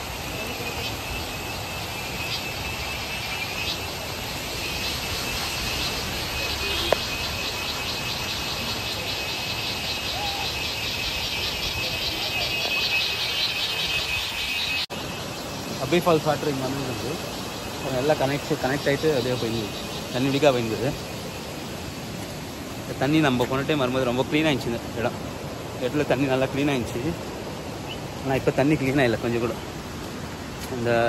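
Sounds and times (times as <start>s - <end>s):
insects buzzing chorus: 0.0s - 31.0s.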